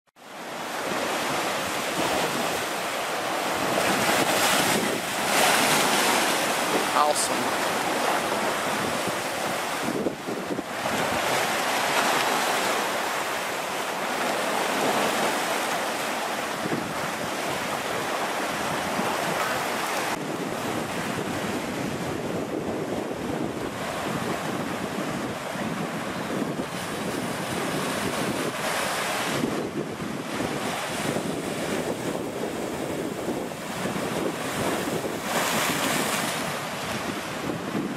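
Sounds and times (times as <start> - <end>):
surf breaking over rocks: 0.4 - 21.5, 23.7 - 37.9.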